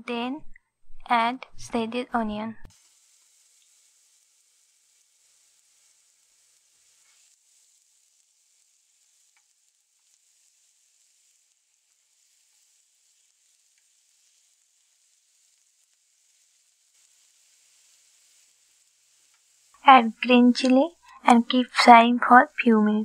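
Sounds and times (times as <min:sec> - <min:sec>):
onion sizzling in oil: 0:02.7 - 0:21.3.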